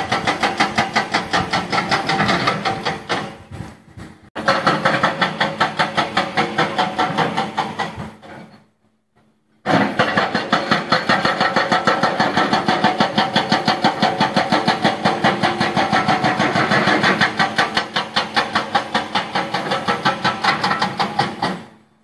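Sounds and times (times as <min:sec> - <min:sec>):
hydraulic breaker pounding rock: 0:00.0 - 0:08.7, 0:09.6 - 0:21.9.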